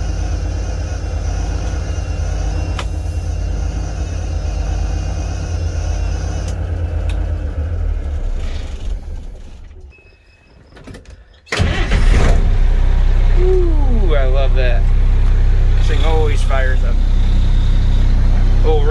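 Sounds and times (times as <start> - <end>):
engine starting and running loudly: 0.0 - 9.9, 11.5 - 18.9
vehicle engine idling: 0.0 - 9.9, 11.6 - 18.9.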